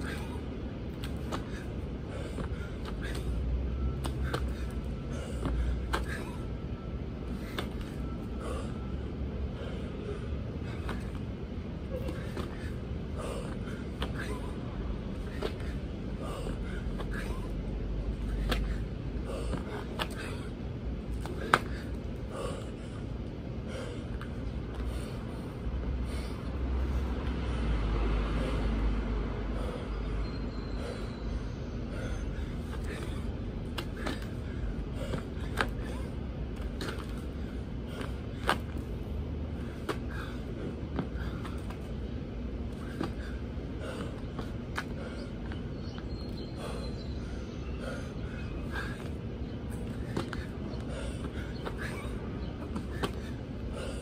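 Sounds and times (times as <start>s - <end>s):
low outdoor rumble: 0.0s - 54.0s
man breathing hard: 0.0s - 54.0s.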